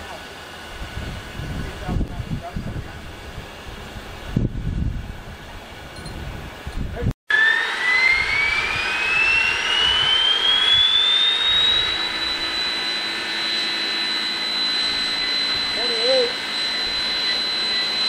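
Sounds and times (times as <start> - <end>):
steam turbine whine: 0.0 - 18.0.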